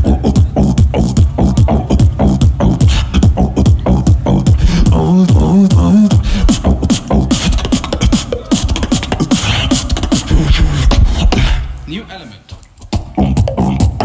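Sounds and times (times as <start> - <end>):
wavering vocal tone: 0.0 - 11.8
beatboxing: 0.0 - 14.0.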